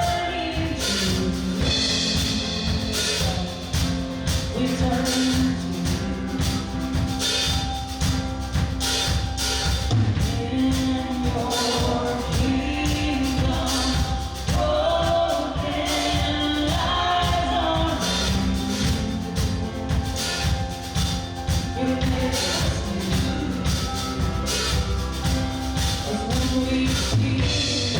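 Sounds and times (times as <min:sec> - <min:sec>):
worship music with singing: 0:00.0 - 0:09.2, 0:09.9 - 0:27.9
steady drum beat: 0:00.0 - 0:27.9.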